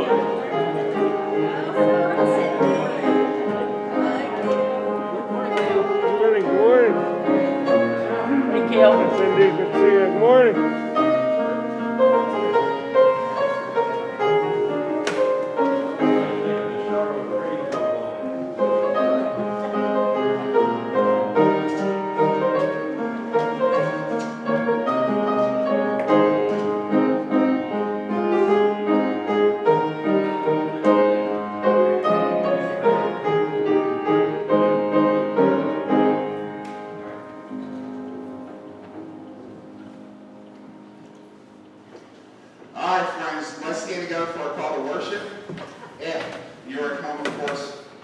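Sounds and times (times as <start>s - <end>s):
piano music: 0.0s - 45.5s.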